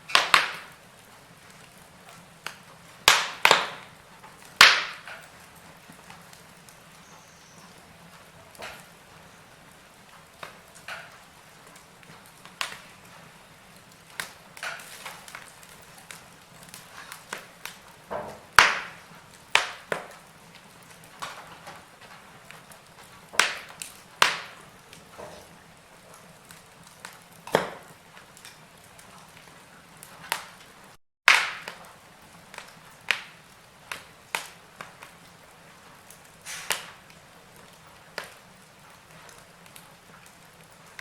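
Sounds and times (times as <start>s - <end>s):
faint fire hiss: 0.0s - 41.0s
firewood crackling and popping: 0.0s - 41.0s.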